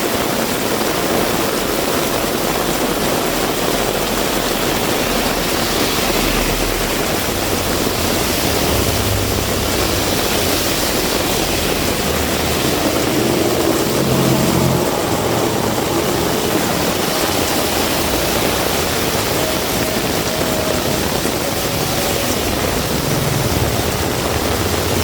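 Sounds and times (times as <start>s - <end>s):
heavy rain pouring: 0.0s - 25.0s
vehicle engine hum: 0.8s - 25.0s.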